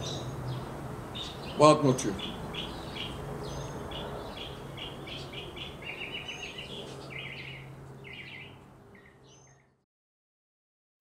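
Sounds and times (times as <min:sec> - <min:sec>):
small birds chirping and trilling: 0:00.0 - 0:09.8.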